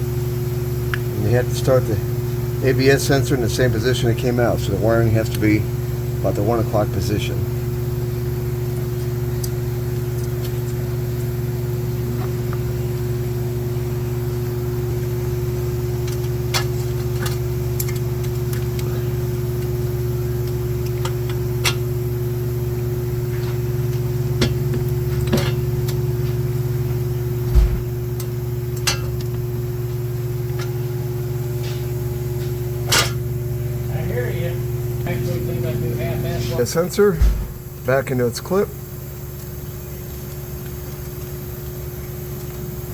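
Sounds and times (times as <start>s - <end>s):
steady machine hum: 0.0s - 42.9s.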